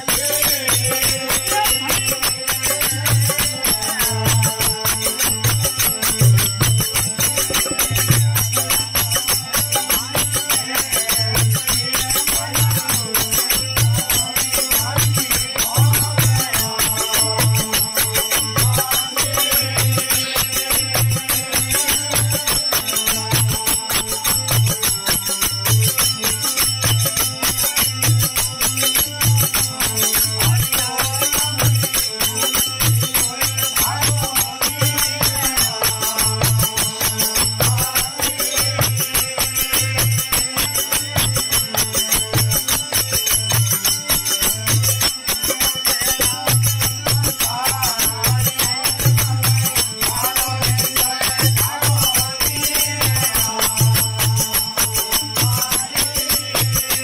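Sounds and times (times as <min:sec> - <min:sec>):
harmonium melody: 0:00.0 - 0:57.0
jingling metal percussion: 0:00.0 - 0:57.0.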